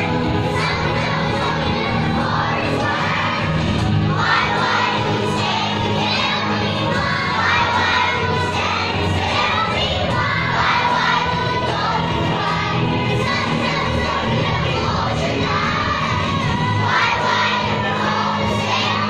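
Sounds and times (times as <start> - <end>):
children singing together: 0.0 - 19.0
low backing music: 0.0 - 19.0.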